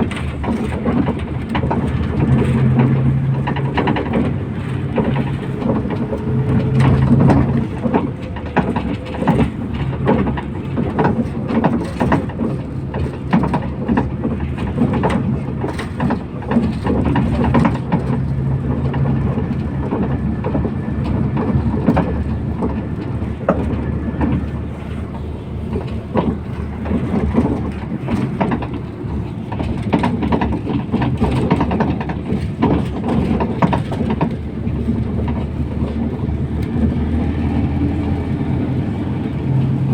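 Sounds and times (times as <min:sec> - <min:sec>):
bus body rattling: 0:00.0 - 0:39.9
bus engine hum: 0:00.0 - 0:39.9
road noise: 0:00.0 - 0:39.9.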